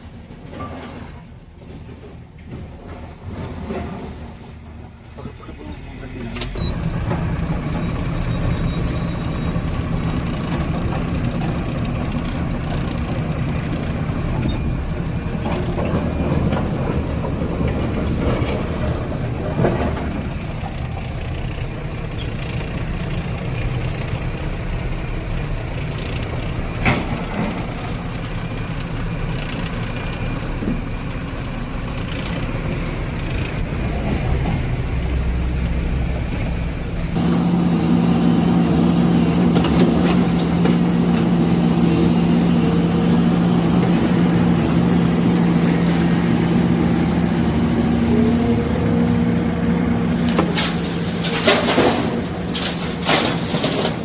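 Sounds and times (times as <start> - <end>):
diesel engine running: 2.6 - 54.0.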